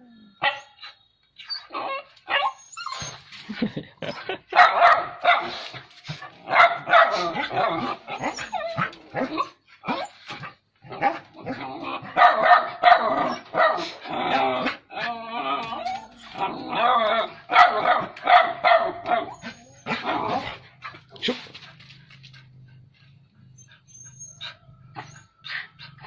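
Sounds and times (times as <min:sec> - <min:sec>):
dog barking and yelping: 0:00.4 - 0:03.3, 0:04.0 - 0:26.0.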